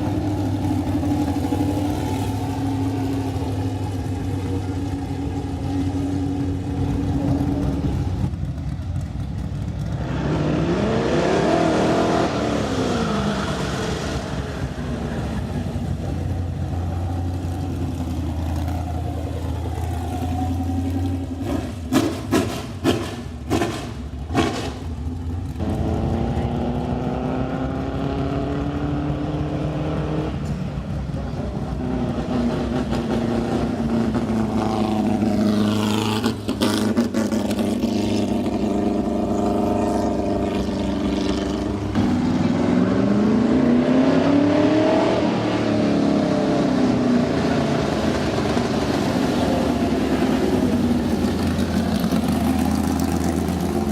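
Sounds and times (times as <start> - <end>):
race car engines revving: 0.0 - 53.9.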